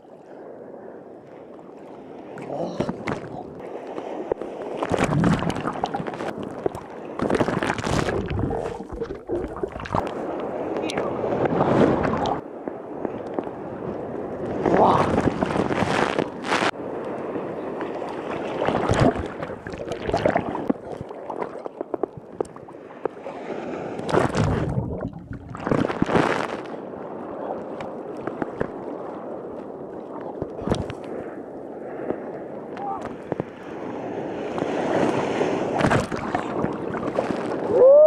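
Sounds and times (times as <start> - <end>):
water sloshing and gurgling: 0.0 - 37.8
waves rushing over camera: 0.0 - 38.0.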